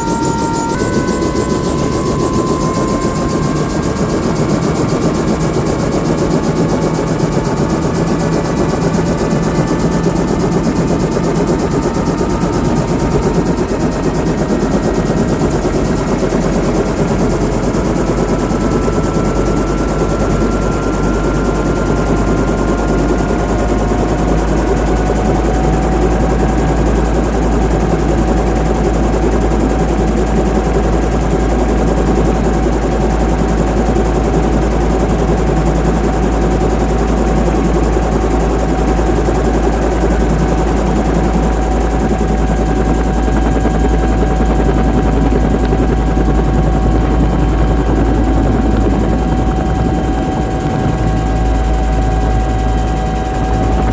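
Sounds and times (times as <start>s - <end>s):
helicopter rotor rumble: 0.0s - 53.9s
helicopter turbine whine: 0.0s - 53.9s.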